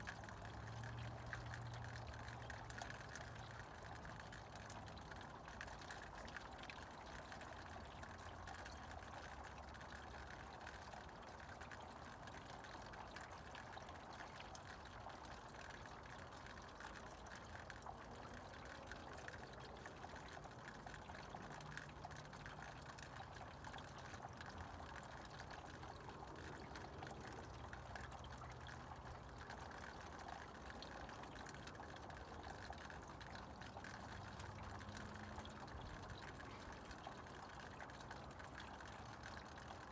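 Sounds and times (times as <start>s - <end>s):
meltwater trickling and dripping: 0.0s - 39.9s.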